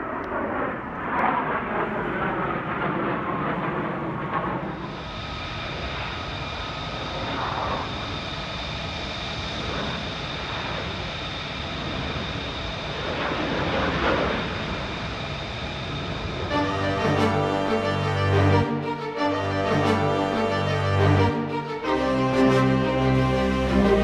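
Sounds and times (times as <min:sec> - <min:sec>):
jet aircraft passing overhead: 0:00.0 - 0:24.0.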